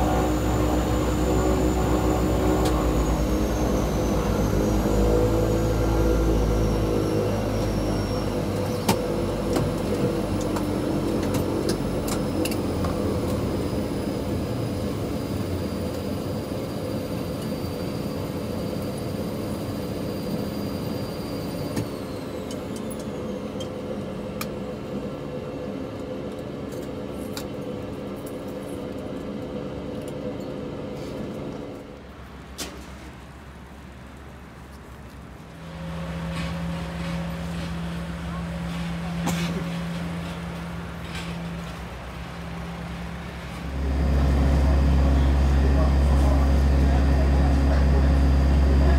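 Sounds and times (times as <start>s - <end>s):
turboprop engines winding down: 0.0s - 32.1s, 35.3s - 48.9s.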